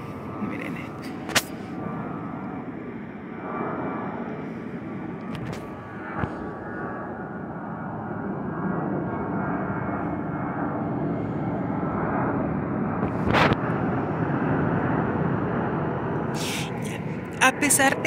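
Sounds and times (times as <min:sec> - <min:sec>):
airplane rumble overhead: 0:00.0 - 0:18.0.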